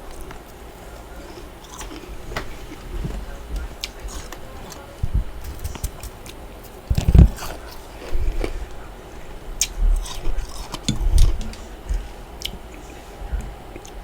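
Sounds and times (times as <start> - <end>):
frost being chewed: 0.0 - 14.0.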